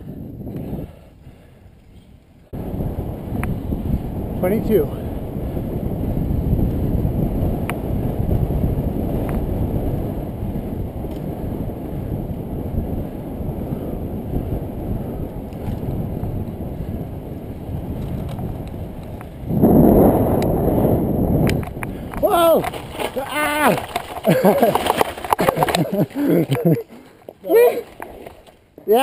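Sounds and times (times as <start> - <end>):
wind buffeting microphone: 0.0 - 26.8.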